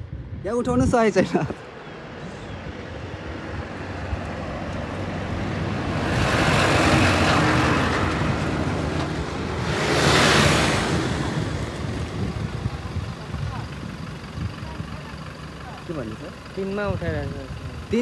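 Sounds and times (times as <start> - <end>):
lorry passing by: 1.1 - 17.8
vehicle passing: 1.6 - 16.7.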